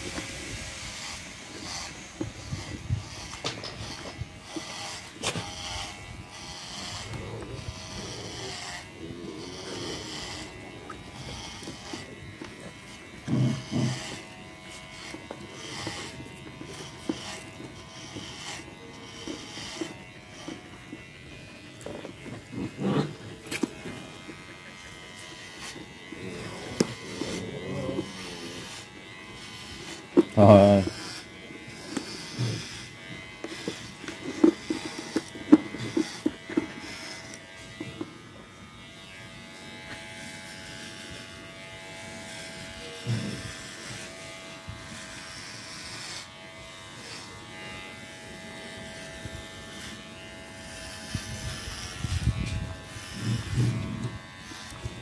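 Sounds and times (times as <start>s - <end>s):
electric hair clippers running: 0.0s - 55.0s.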